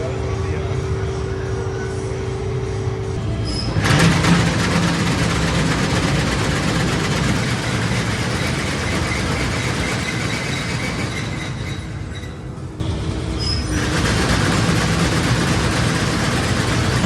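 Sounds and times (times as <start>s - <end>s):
combine harvester running: 2.7s - 17.0s.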